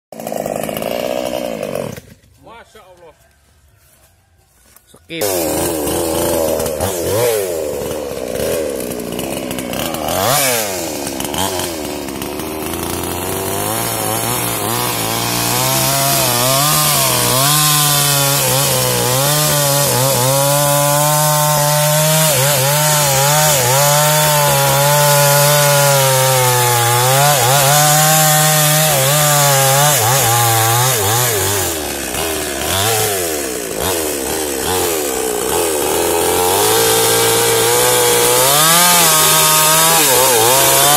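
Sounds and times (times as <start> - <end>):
chainsaw cutting into tree trunk: 0.1 - 2.4, 5.2 - 40.9.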